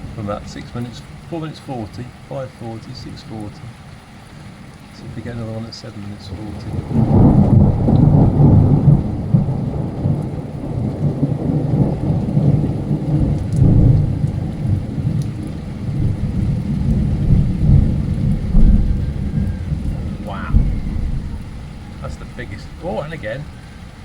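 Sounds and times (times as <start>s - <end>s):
thunder rumbling: 0.0s - 3.8s, 4.4s - 24.0s
heavy rain: 0.0s - 24.0s.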